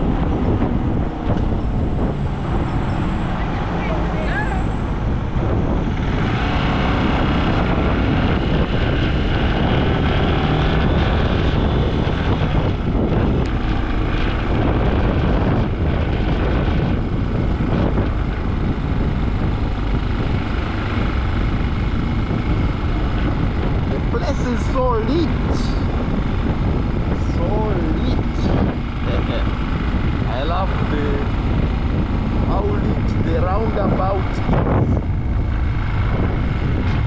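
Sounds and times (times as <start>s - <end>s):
wind rushing over microphone: 0.0s - 37.0s
motorcycle engine running: 4.6s - 37.0s.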